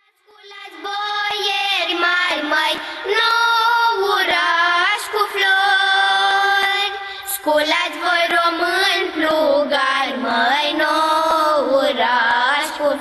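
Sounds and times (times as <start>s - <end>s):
girls singing a carol: 0.1s - 13.0s.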